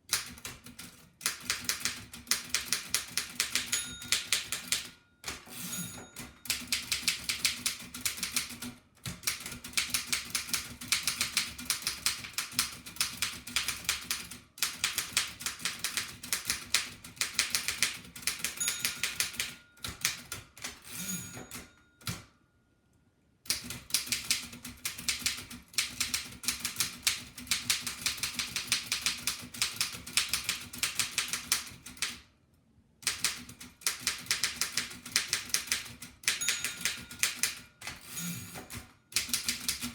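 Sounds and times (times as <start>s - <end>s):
typewriter keys clattering: 0.1s - 5.4s, 6.1s - 20.9s, 23.5s - 32.2s, 33.1s - 39.9s.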